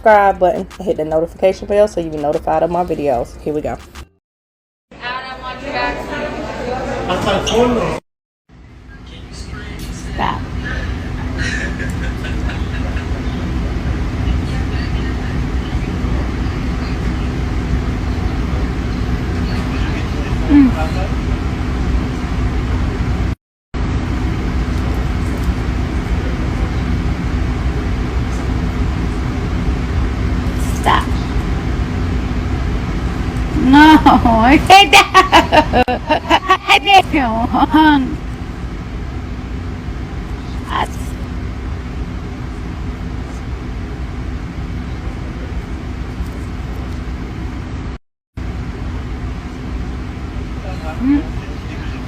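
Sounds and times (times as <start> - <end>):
faint constant hum: 0.0 - 3.9, 5.0 - 8.0, 8.6 - 52.0
low rumbling noise: 8.6 - 52.0.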